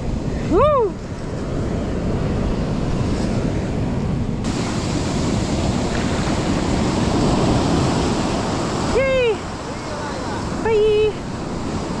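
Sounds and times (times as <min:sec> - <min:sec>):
ocean surf washing up beach: 0:00.0 - 0:12.0
wind on microphone: 0:00.0 - 0:12.0.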